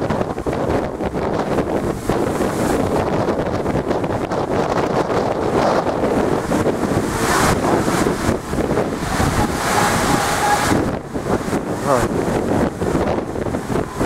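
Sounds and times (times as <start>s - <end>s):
waves crashing against sea wall: 0.0s - 14.0s
wind buffeting microphone: 0.0s - 14.0s.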